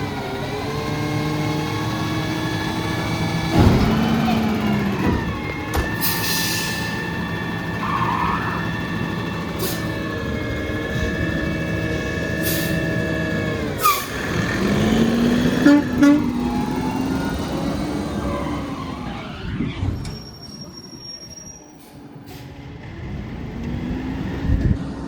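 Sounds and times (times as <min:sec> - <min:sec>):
garbage truck whine: 0:00.0 - 0:25.0.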